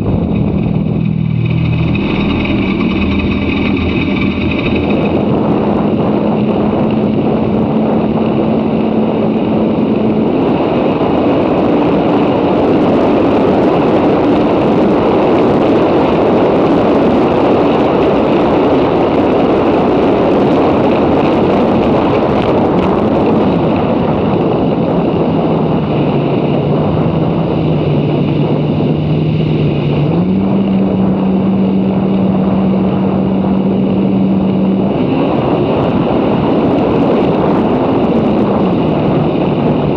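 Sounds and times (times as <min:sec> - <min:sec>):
jet ski engine drone: 0:00.0 - 0:39.9
water noise: 0:00.0 - 0:39.9
wind rushing over microphone: 0:00.0 - 0:39.9.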